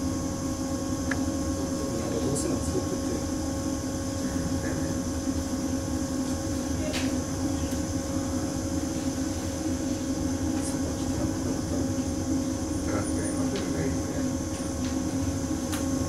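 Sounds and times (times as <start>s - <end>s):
electric train equipment humming: 0.0s - 16.0s.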